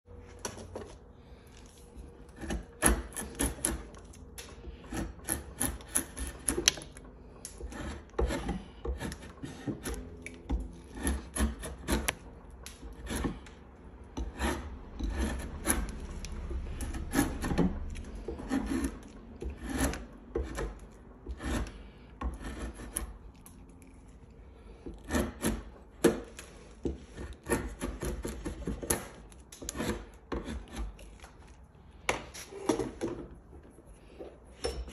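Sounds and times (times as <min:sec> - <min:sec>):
drawknife scraping wood: 0:00.7 - 0:33.2.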